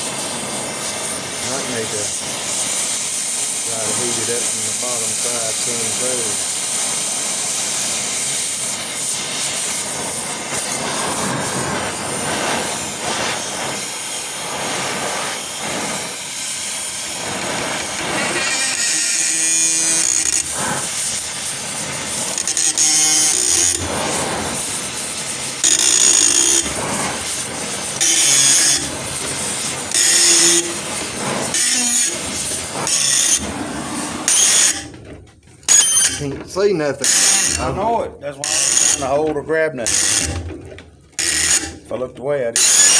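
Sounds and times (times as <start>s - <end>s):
gas torch hissing: 0.0s - 42.9s.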